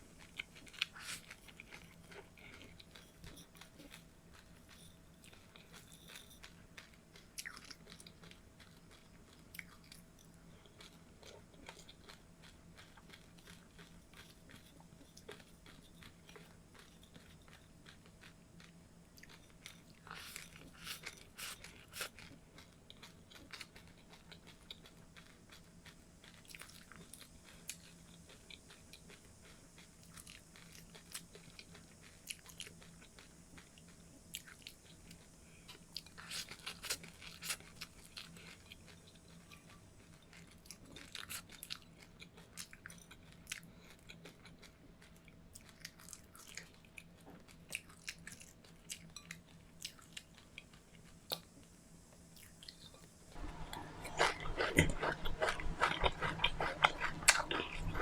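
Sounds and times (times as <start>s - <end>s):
faint steady hum: 0.0s - 58.0s
person chewing crunchy seeds: 0.0s - 58.0s.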